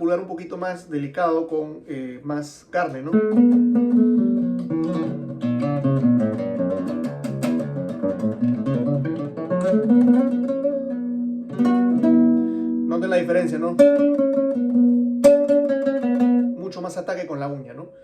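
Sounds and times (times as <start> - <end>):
acoustic guitar plucked notes: 2.9 - 18.0.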